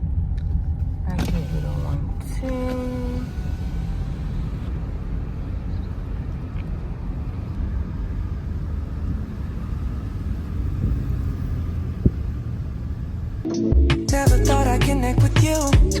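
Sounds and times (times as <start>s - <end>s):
car rumbling on road: 0.0s - 13.5s.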